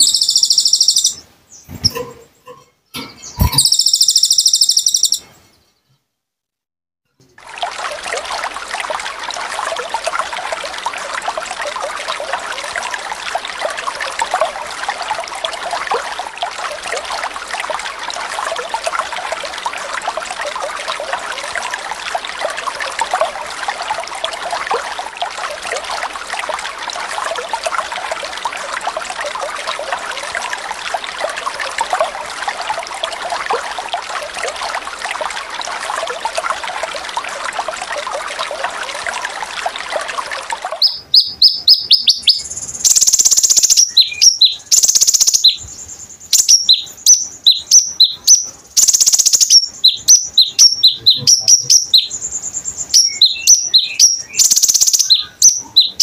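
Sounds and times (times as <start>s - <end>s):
trickling water: 0.0s - 5.6s, 7.1s - 56.0s.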